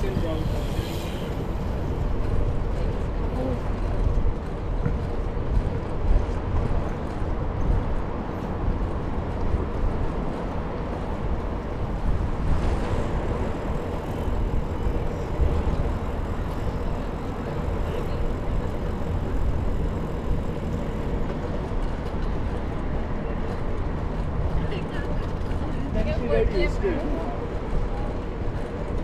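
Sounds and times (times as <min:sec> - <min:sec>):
bicycle tyres rolling on trail: 0:00.0 - 0:29.0
wind buffeting microphone: 0:00.0 - 0:29.0.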